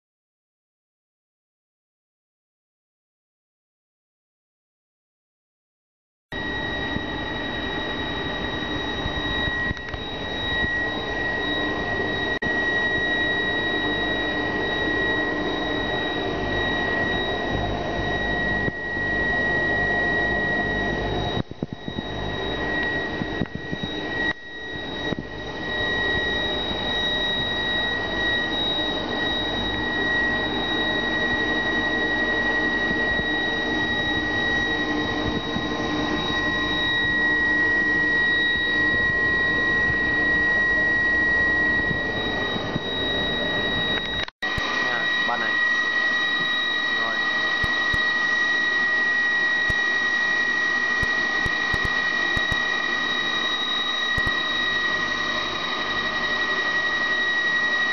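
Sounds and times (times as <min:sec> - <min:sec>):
blower whirring: 0:06.3 - 0:57.9
high-pitched whine: 0:06.3 - 0:57.9.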